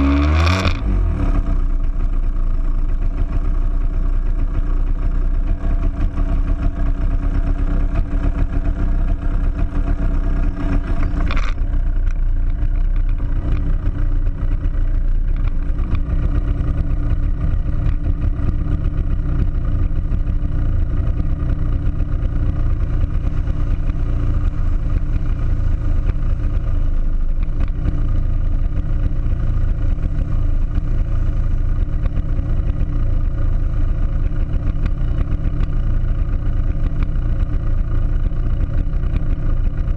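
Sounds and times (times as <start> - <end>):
heavy fluttering low rumble: 1.0 - 39.9
kart engine humming: 1.2 - 39.9.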